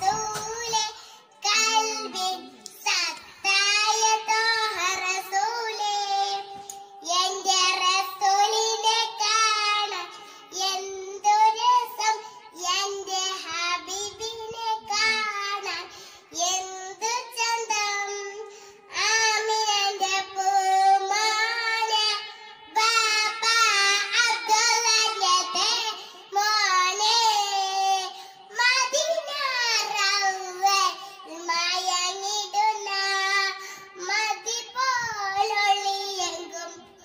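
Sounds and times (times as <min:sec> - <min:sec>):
girl singing into a microphone: 0:00.0 - 0:37.0.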